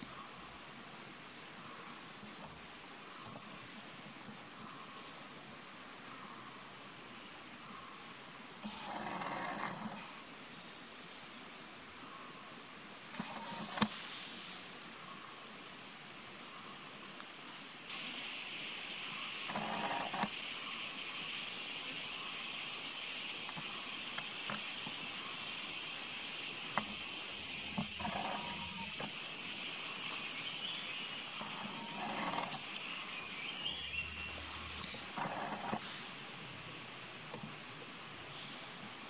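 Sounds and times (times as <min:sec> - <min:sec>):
forest insects chorus: 0:00.0 - 0:39.0.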